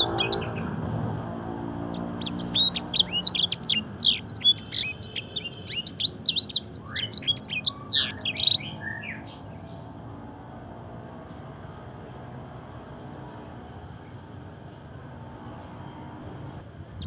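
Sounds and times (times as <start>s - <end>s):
canary singing: 0.0s - 16.6s.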